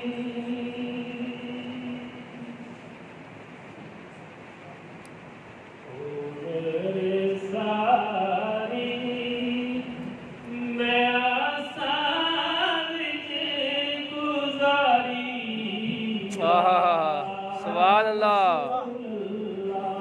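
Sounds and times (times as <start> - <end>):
man singing devotional song: 0.0 - 2.6, 5.9 - 20.0.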